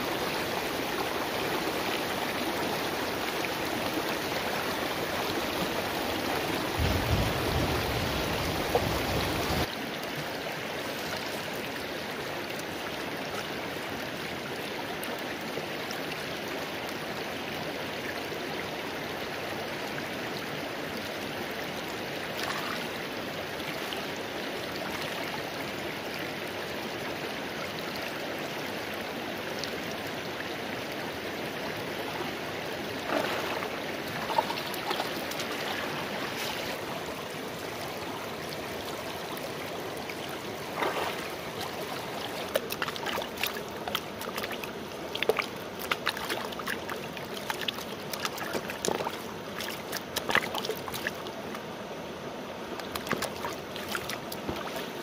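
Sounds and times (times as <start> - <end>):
stream running over stones: 0.0 - 55.0.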